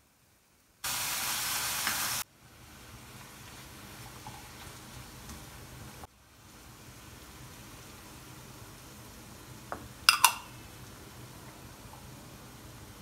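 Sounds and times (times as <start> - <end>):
food sizzling in a frying pan: 0.8 - 13.0.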